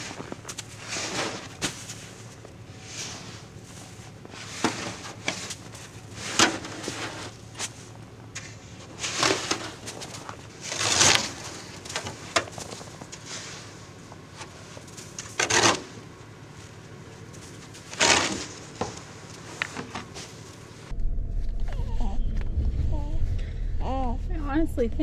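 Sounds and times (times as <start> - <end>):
brush sweeping snow: 0.0 - 20.8
snow sliding and dropping: 0.0 - 20.8.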